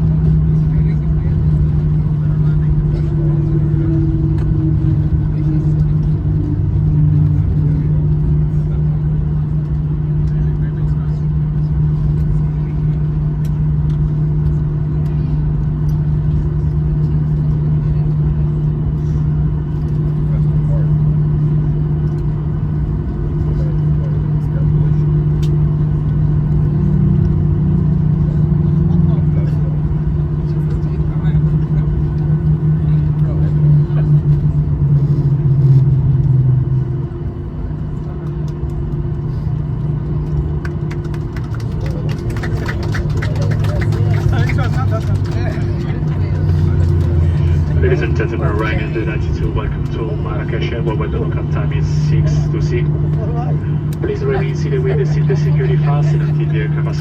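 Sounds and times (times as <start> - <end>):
airplane engines droning: 0.0 - 57.0.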